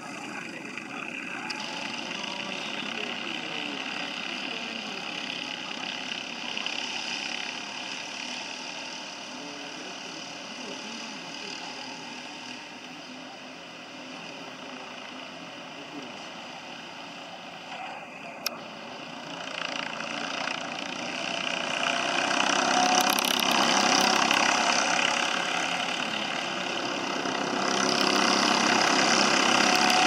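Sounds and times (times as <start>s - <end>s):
racing kart engines buzzing: 0.0s - 30.0s.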